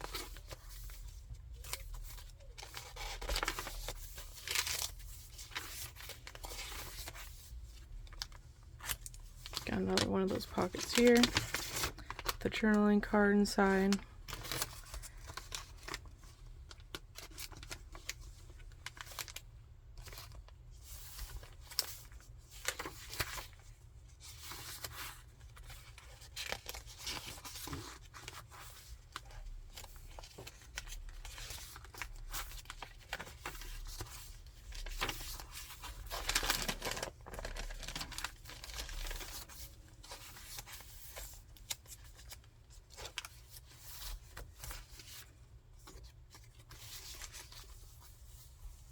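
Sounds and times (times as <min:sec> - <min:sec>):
paper pages rustling: 0:00.0 - 0:48.9.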